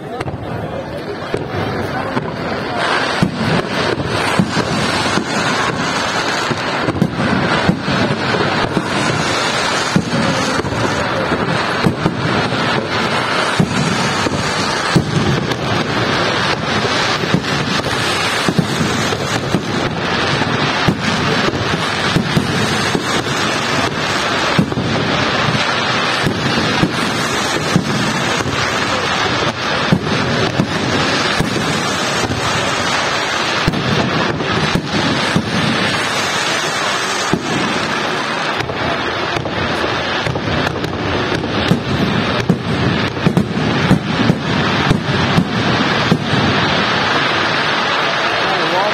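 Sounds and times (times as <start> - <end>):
fireworks crackling: 0.0 - 48.9
fireworks shells bursting: 0.0 - 48.9.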